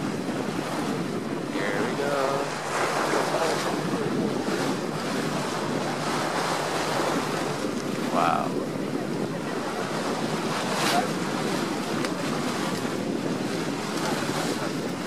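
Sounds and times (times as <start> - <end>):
boat engine: 0.0 - 15.0
water rushing: 0.0 - 15.0
wind buffeting microphone: 0.0 - 15.0.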